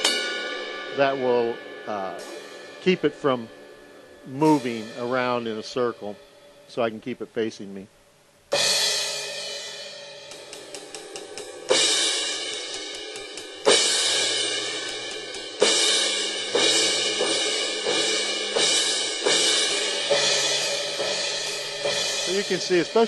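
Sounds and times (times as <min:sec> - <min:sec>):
electronic crash cymbals: 0:00.0 - 0:06.8, 0:08.6 - 0:23.0.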